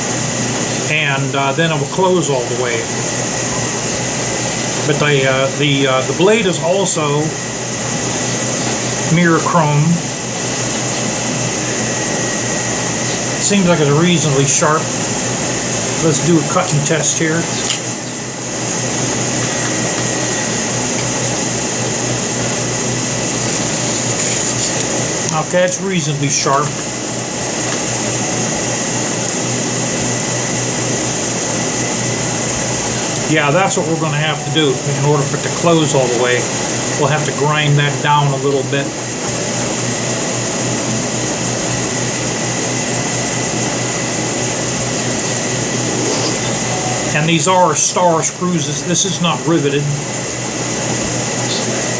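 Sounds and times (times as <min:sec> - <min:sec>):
air conditioner hum and hiss: 0:00.0 - 0:51.9.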